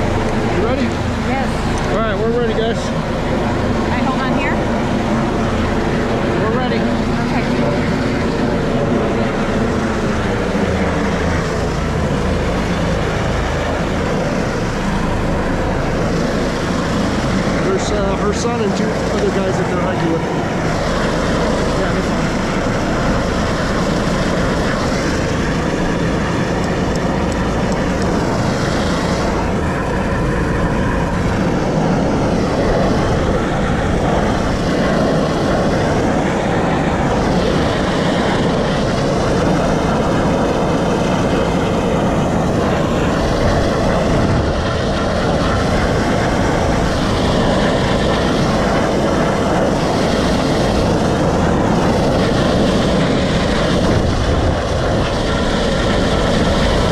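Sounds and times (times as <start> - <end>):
helicopter rotor and turbine: 0.0 - 56.9.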